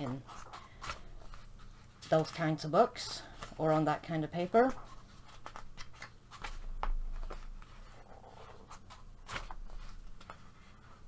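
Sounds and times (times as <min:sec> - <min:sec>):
paper pages rustling: 0:00.0 - 0:02.7, 0:03.3 - 0:11.0.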